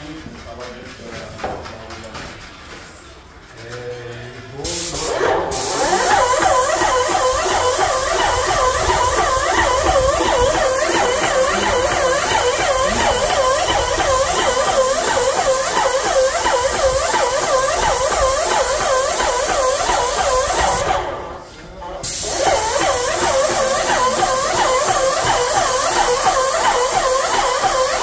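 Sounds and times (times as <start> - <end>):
spray gun hissing: 4.6 - 21.2, 22.0 - 28.0
sprayer motor pumping: 4.6 - 21.3, 22.0 - 28.0.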